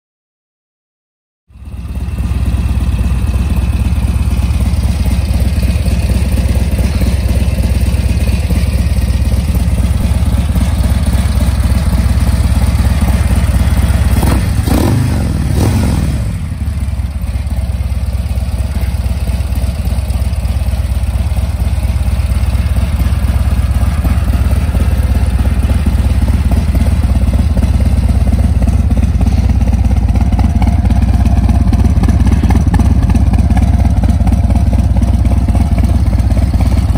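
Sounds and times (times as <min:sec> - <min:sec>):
motorcycle engine idling: 0:01.5 - 0:36.9.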